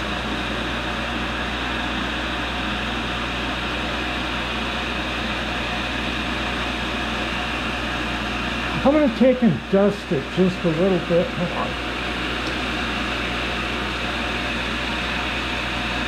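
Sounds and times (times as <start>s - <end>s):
grinder motor humming: 0.0s - 16.0s.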